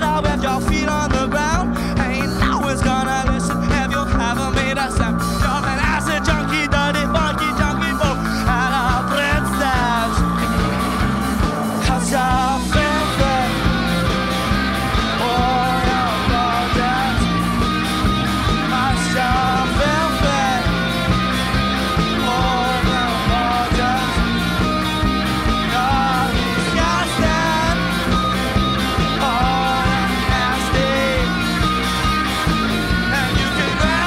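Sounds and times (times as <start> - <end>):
man singing: 0.0 - 10.9, 11.6 - 34.0
drum kit with cymbals: 0.0 - 34.0
electric guitars: 0.0 - 34.0.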